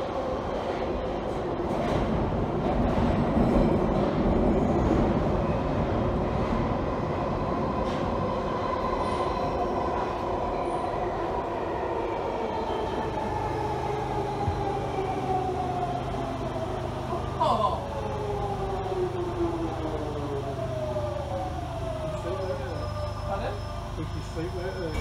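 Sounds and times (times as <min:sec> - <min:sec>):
falling whine of train: 0:00.0 - 0:25.0
train rumbling through tunnel: 0:00.0 - 0:25.0.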